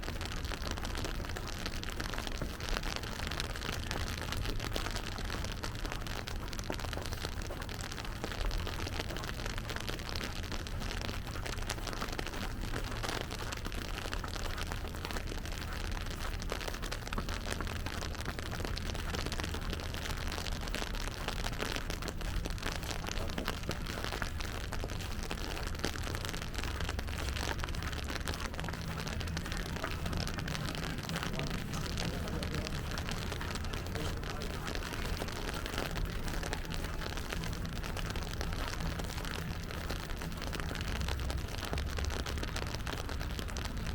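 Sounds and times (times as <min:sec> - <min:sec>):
rain pattering on wet surfaces: 0:00.0 - 0:43.9.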